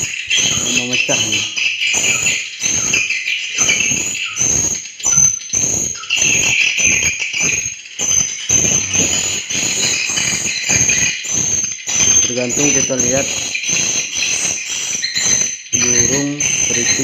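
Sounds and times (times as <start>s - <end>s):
swiftlets chirping: 0.4s - 17.0s.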